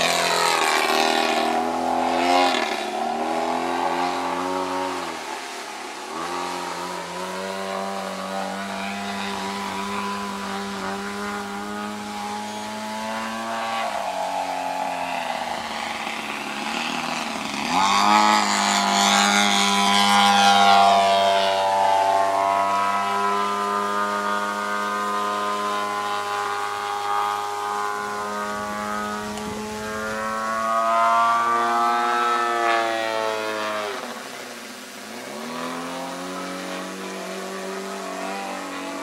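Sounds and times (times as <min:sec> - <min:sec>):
model plane engine running hard: 0:00.0 - 0:39.0.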